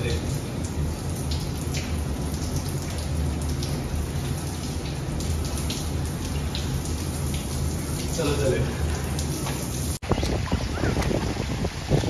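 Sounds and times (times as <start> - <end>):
shower water spattering on tiles: 0.0 - 12.0.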